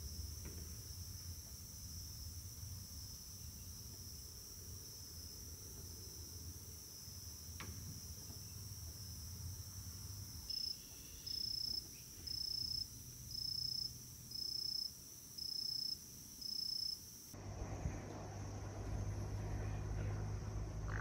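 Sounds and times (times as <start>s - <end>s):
insects trilling: 0.0s - 17.4s, 19.7s - 21.0s.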